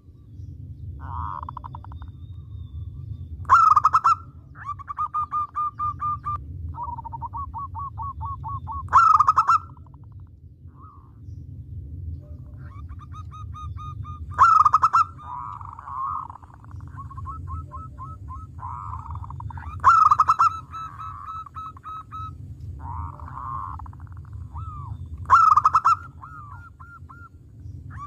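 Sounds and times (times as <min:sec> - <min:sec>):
low rumble: 0:00.0 - 0:28.0
dove cooing: 0:01.0 - 0:02.2, 0:03.4 - 0:11.2, 0:12.2 - 0:28.0.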